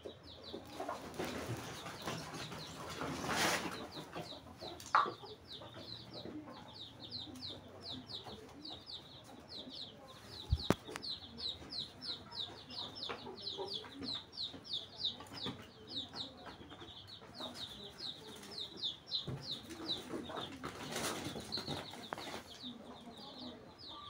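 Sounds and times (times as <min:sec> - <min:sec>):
bird peeping: 0:00.0 - 0:24.0.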